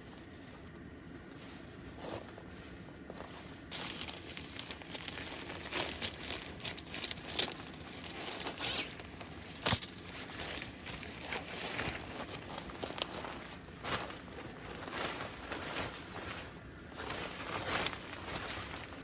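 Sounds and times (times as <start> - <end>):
plastic rustling and crinkling: 0.0 - 19.0.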